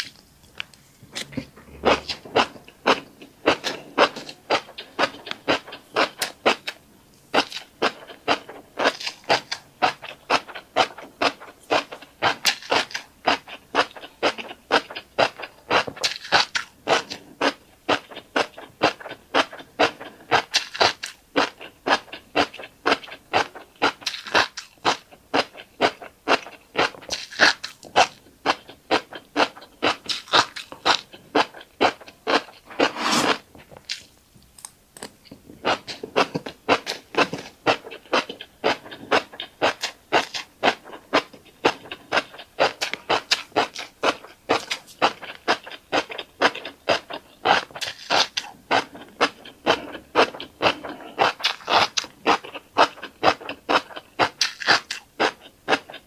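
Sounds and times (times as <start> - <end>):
chewing crunchy seeds: 0.0 - 56.0.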